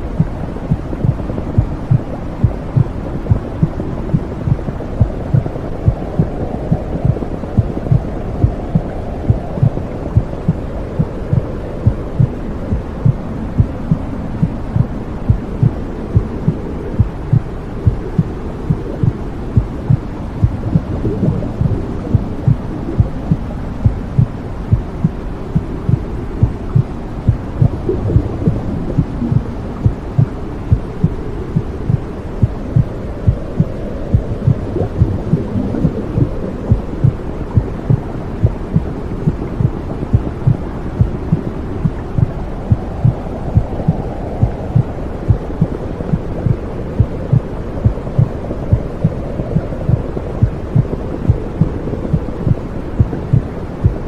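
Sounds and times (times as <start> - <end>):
low whooshing rumble: 0.0 - 54.0
heartbeat thumping: 0.1 - 54.0.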